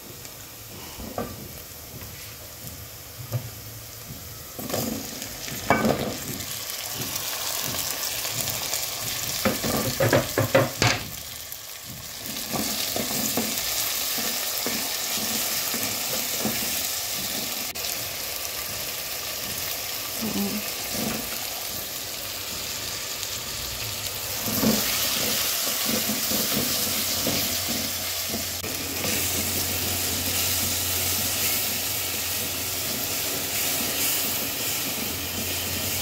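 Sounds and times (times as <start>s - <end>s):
vegetables sizzling in a pot: 0.0s - 36.0s.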